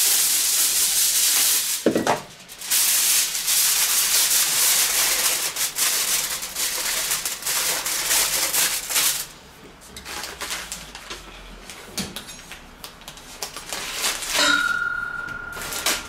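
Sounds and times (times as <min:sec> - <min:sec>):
aluminium foil crinkling: 0:00.0 - 0:14.8, 0:15.5 - 0:16.0.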